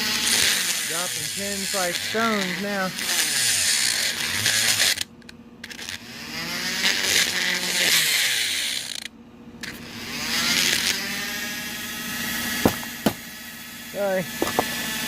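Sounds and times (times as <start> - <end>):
rotary tool grinding metal: 0.0 - 15.0.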